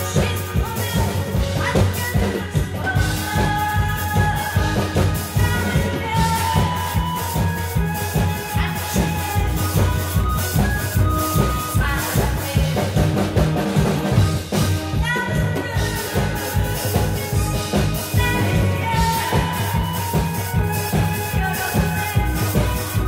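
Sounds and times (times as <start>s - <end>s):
woman singing into a microphone: 0.0s - 13.4s, 14.9s - 23.0s
amplified backing music with drums: 0.0s - 23.0s.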